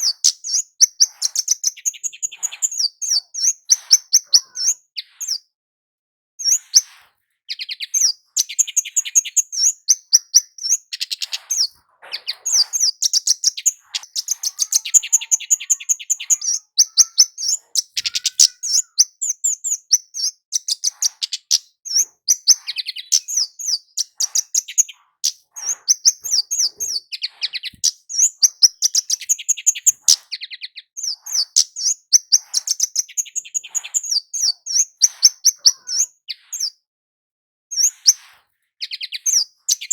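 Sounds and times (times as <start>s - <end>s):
bird chirping and trilling: 0.0s - 5.5s, 6.4s - 36.8s, 37.7s - 38.2s, 38.8s - 39.9s.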